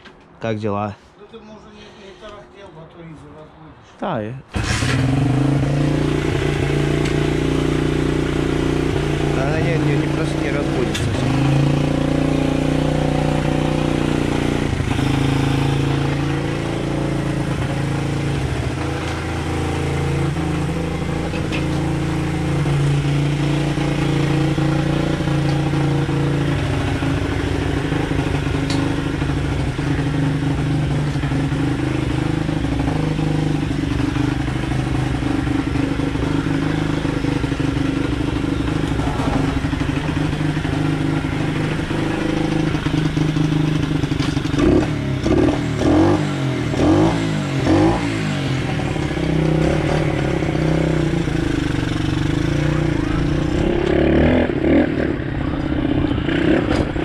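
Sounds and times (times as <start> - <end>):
small engine idling: 4.5 - 45.8, 48.2 - 54.0.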